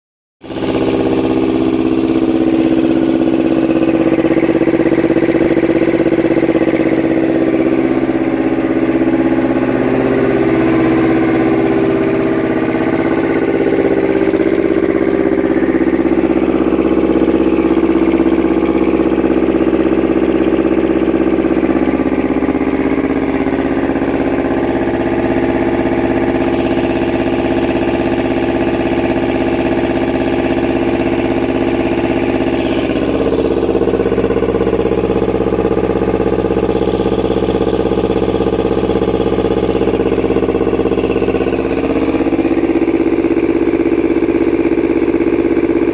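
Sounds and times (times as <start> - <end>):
diesel engine running: 0.4 - 45.9.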